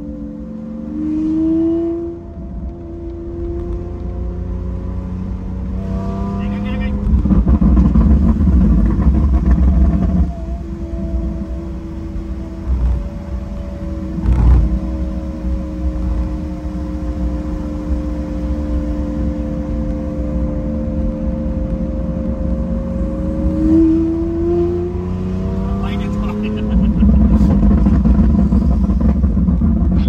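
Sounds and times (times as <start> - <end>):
car engine humming: 0.0 - 30.0
low road rumble: 0.0 - 30.0.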